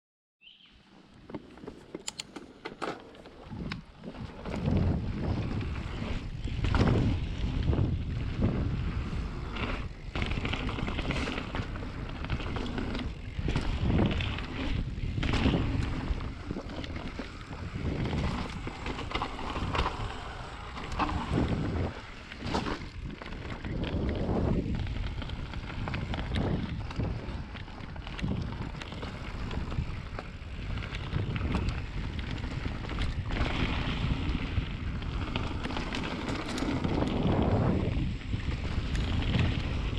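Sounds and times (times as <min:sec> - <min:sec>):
bike rattles and knocks: 0:01.2 - 0:39.9
bike tyres rumbling over dirt: 0:02.9 - 0:39.9
wind noise on microphone: 0:03.4 - 0:39.9.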